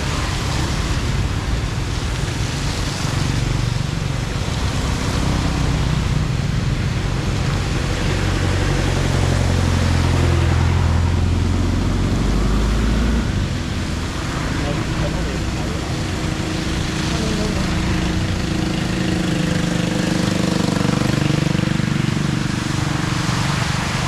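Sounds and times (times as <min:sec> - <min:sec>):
floodwater rushing into drain: 0:00.0 - 0:24.0.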